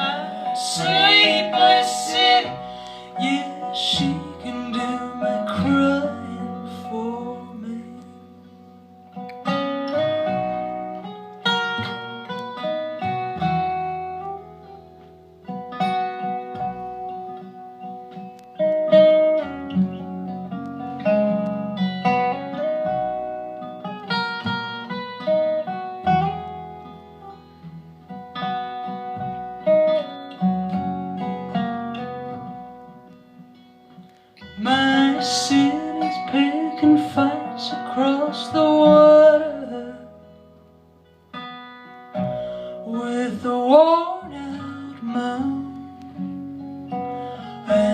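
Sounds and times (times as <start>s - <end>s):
plucked acoustic guitar melody: 0.0s - 47.9s.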